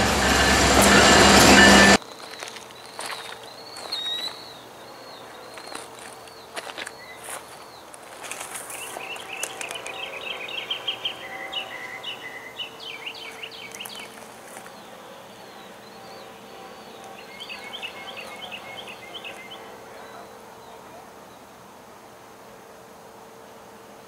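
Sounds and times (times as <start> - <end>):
songbird chirping: 0.8 - 21.7
faint steady hum: 2.0 - 24.0.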